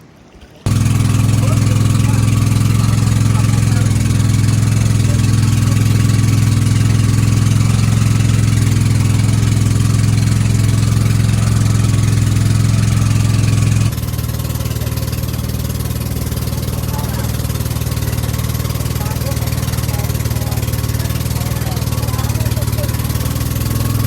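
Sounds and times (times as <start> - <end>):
engine running with low hum: 0.6 - 24.0.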